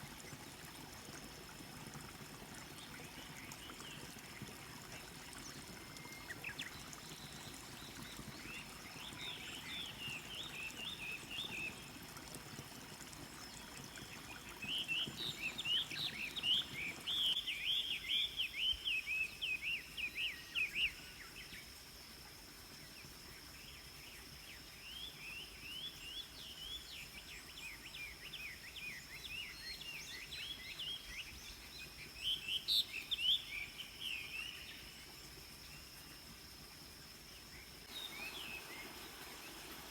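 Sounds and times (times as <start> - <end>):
faint flowing water hiss: 0.0 - 39.9.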